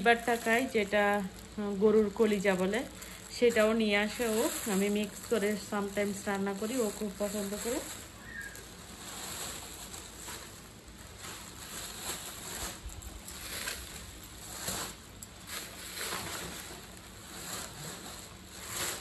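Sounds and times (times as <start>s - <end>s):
plastic bags rustling: 0.0s - 19.0s.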